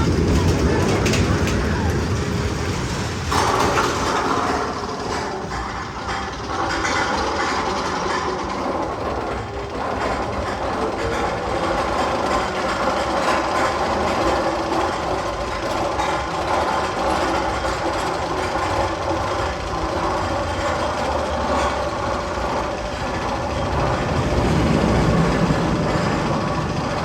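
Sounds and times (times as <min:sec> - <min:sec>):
steady mechanical rumble: 0:00.0 - 0:27.0.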